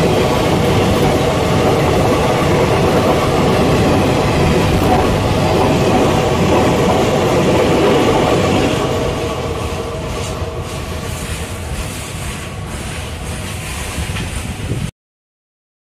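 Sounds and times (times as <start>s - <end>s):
train coaches rumbling past: 0.0s - 14.9s.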